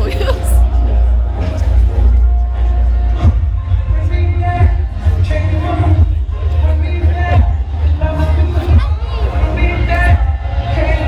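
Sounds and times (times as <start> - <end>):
loud music with heavy bass: 0.0 - 11.0.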